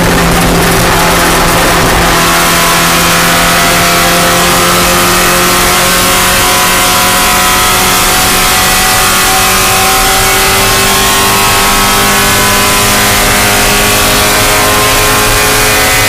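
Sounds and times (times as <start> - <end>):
race car engine running: 0.0 - 16.0.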